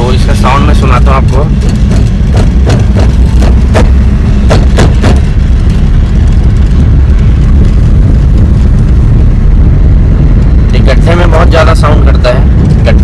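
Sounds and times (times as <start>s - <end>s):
low road rumble inside car: 0.0s - 13.0s
steering knocking and rattling: 0.2s - 13.0s.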